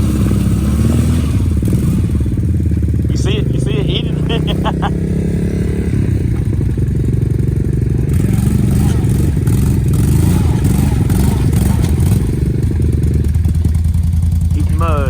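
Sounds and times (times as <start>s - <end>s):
atv engine running in mud: 0.0s - 15.0s
noisy rush: 0.0s - 15.0s.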